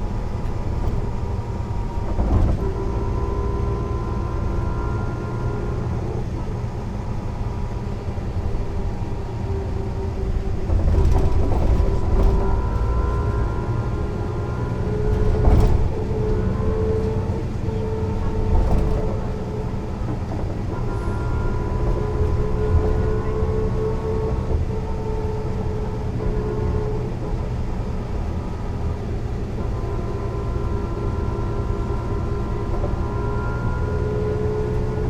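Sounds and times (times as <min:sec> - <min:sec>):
bus diesel engine rumble: 0:00.0 - 0:35.0
engine whine: 0:00.0 - 0:35.0.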